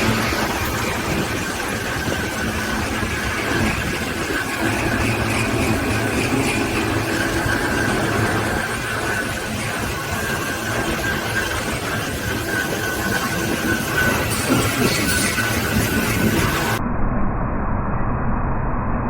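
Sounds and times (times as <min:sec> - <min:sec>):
boring machine whining and humming: 0:00.0 - 0:19.0.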